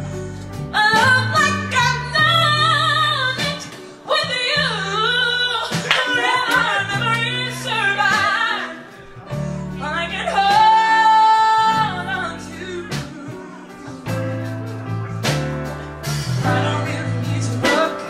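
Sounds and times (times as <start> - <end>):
bass: 0.0 - 18.0
woman singing soul ballad: 0.6 - 14.5, 16.4 - 18.0.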